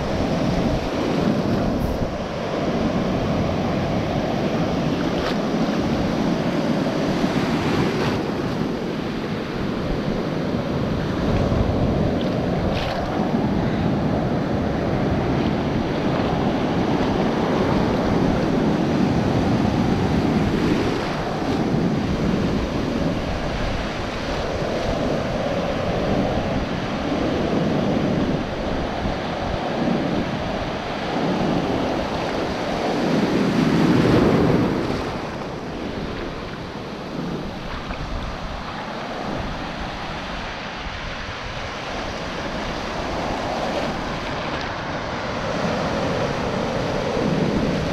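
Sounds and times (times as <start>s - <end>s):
ocean surf washing: 0.0s - 47.9s
wind buffeting microphone: 0.0s - 47.9s.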